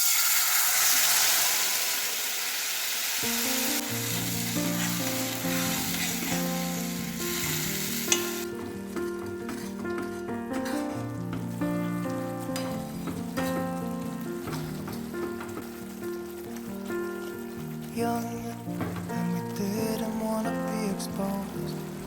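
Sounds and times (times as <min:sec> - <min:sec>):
food sizzling in a pan: 0:00.0 - 0:22.0
background music: 0:03.2 - 0:22.0.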